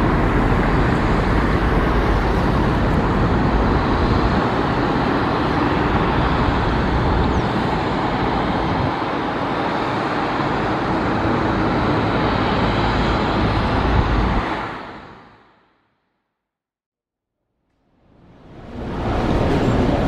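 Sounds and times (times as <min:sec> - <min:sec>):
jet engines idling: 0:00.0 - 0:15.6, 0:17.8 - 0:20.0.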